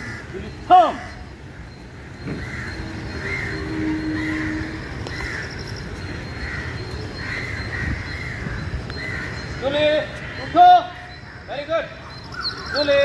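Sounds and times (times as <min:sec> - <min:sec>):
crow cawing: 0:00.0 - 0:13.0.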